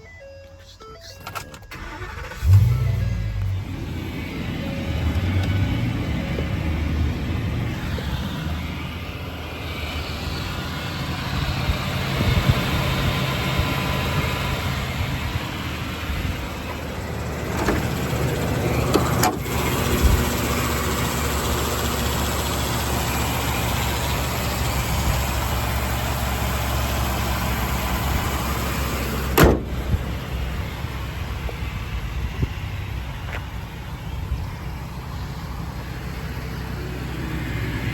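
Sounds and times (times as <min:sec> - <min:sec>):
truck engine idling: 0:00.0 - 0:37.9.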